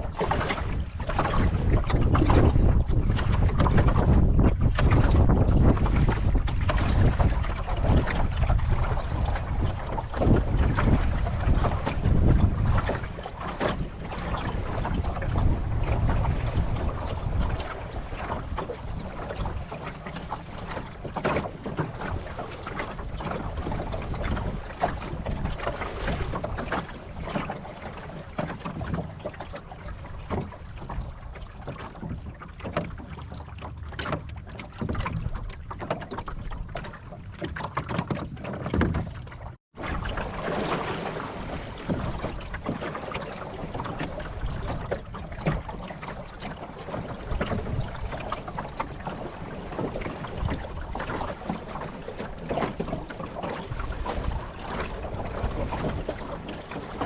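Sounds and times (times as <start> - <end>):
water splashing along hull: 0.0 - 57.0
wind noise on microphone: 0.0 - 57.0.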